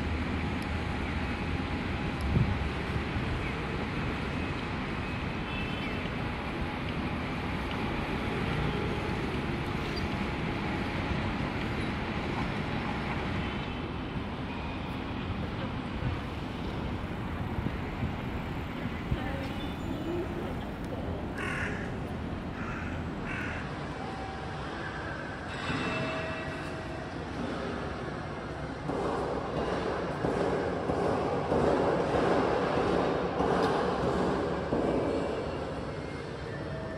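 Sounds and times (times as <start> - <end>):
distant traffic hum: 0.0 - 25.7, 26.6 - 36.5.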